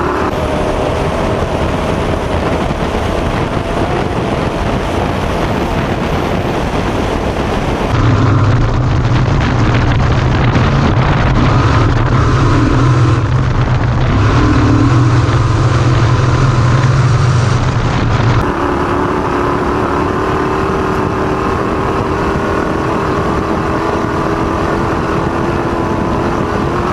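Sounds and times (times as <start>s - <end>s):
deep drone: 0.0s - 26.9s
heavy rushing roar: 0.0s - 26.9s
race vehicle engine: 0.0s - 26.9s.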